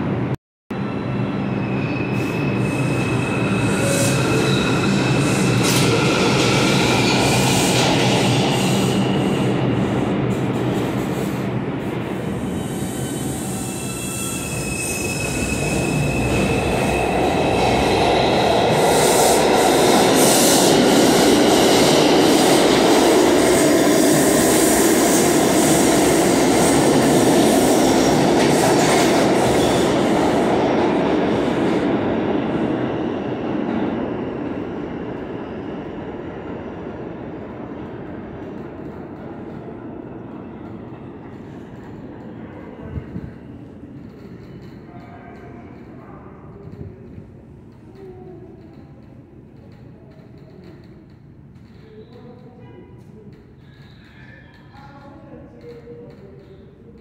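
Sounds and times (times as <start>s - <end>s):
train wheels rumbling and squealing: 0.7s - 57.0s.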